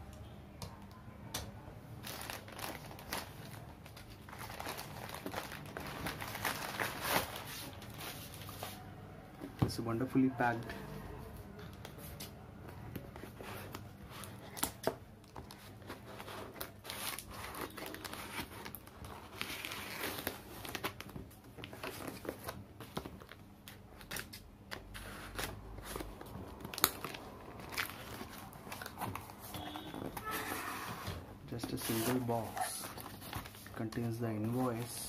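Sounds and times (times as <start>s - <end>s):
plastic wrap crinkling: 2.0s - 8.9s, 13.0s - 24.4s, 25.0s - 35.0s.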